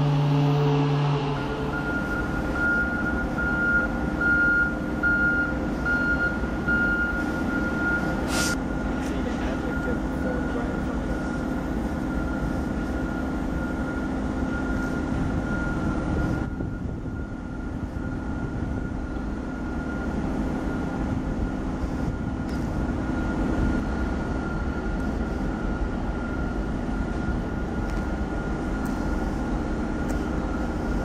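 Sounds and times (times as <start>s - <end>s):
freight train rumbling past: 0.0s - 31.0s
high whine: 0.0s - 31.0s.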